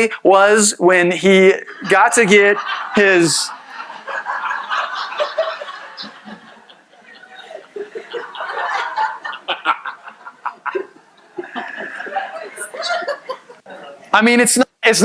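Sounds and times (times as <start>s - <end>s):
congregation laughing: 1.4s - 14.2s.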